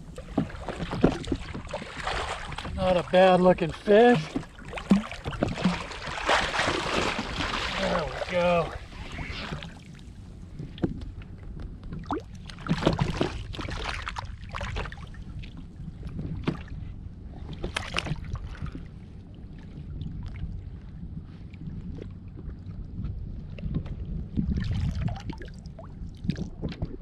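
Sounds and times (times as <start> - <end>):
water lapping around a kayak: 0.0 - 27.0
wind rumble on microphone: 0.0 - 27.0.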